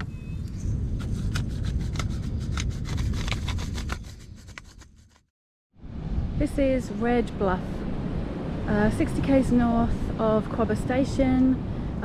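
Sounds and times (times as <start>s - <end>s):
wind rumble on microphone: 0.0s - 4.5s, 5.8s - 12.0s.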